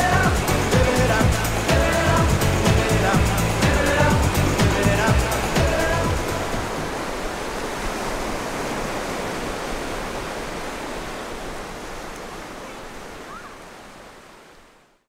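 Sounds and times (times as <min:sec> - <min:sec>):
surf washing onto beach: 0:00.0 - 0:14.8.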